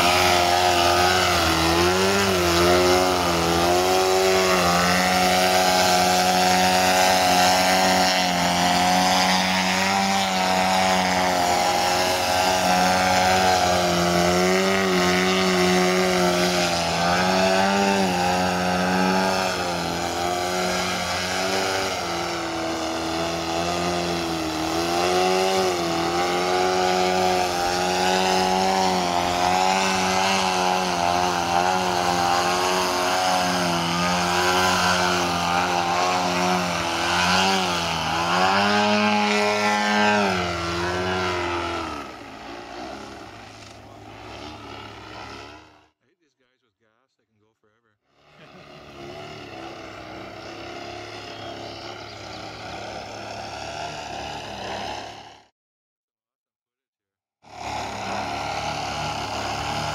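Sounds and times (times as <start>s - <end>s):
model plane engine revving: 0.0s - 46.0s, 48.2s - 55.5s, 57.4s - 59.9s.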